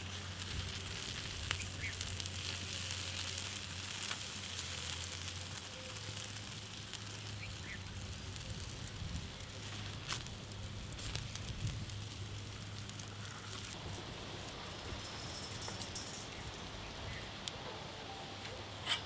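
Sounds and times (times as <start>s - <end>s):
faint crackles: 0.0s - 19.0s
sizzling hiss from charcoal: 0.0s - 19.0s.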